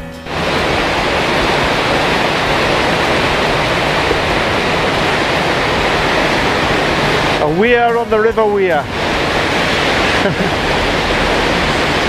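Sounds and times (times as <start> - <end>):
water rushing over weir: 0.3 - 12.0.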